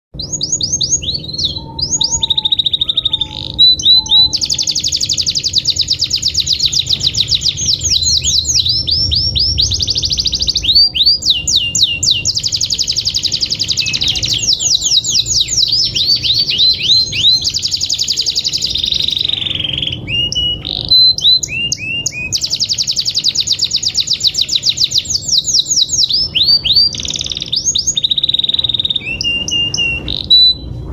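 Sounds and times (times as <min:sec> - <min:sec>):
canary singing trills: 0:00.2 - 0:30.9.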